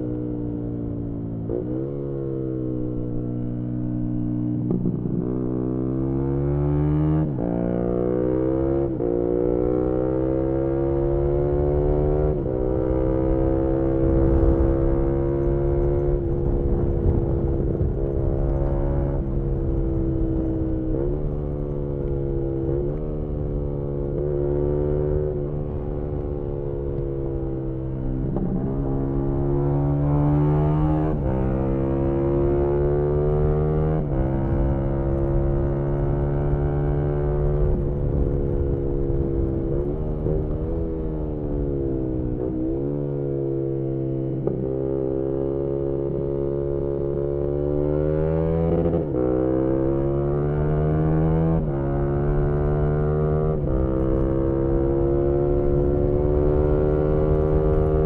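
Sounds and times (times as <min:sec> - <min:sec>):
motorcycle engine revving: 0:01.4 - 0:58.0.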